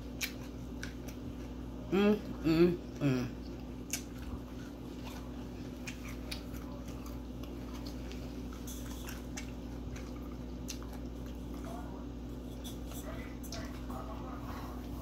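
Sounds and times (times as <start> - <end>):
person chewing food: 0.0 - 14.2
steady low hum: 0.0 - 15.0.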